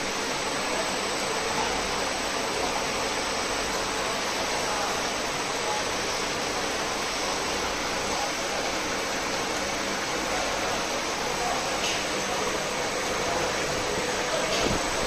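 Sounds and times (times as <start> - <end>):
disperser motor churning liquid: 0.0 - 15.0.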